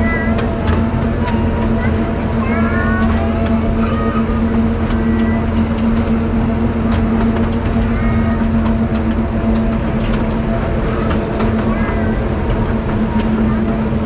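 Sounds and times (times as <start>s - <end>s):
diesel train engine drone: 0.0s - 14.0s.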